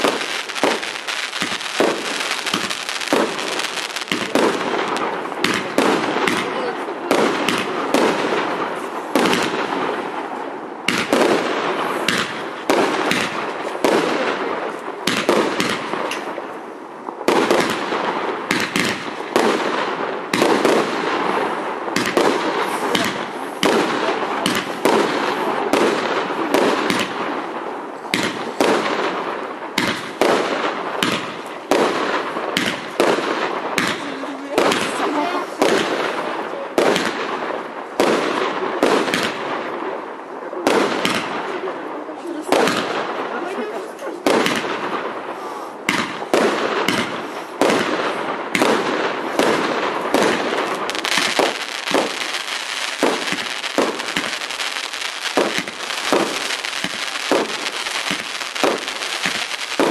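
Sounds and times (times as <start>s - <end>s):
fireworks bangs: 0.0s - 59.9s
fireworks crackling: 0.0s - 59.9s.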